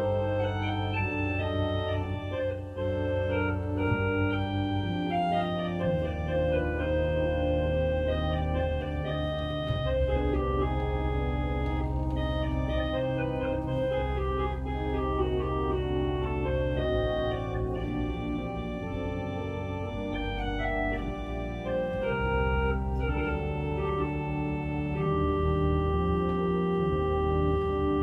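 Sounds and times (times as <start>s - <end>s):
organ playing slow chords: 0.0s - 28.0s.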